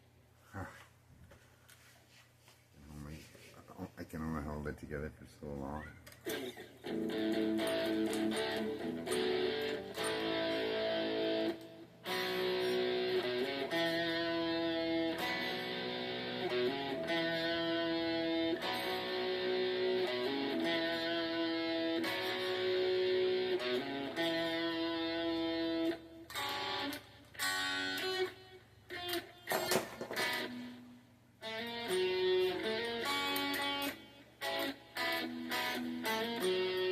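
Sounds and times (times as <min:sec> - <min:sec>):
guitar chords: 0:06.2 - 0:36.9.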